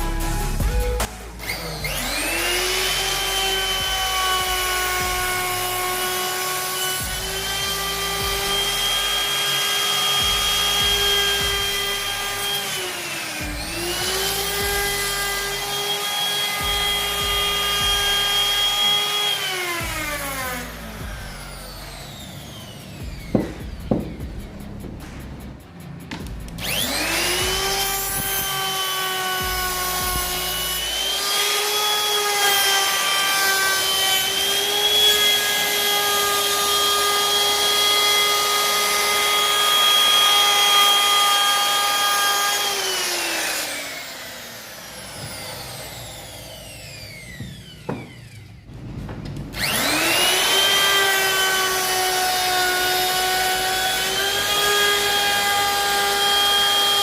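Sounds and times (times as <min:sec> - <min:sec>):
wood router motor whine: 0:00.0 - 0:24.2, 0:26.6 - 0:57.0.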